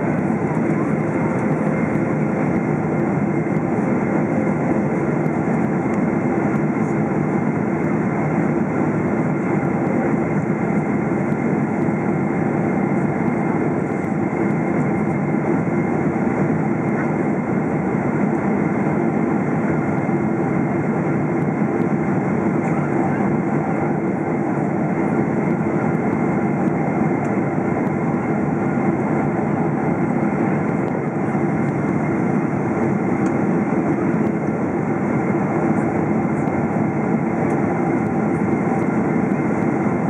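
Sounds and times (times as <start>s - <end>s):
airplane cabin engine noise: 0.0s - 40.0s.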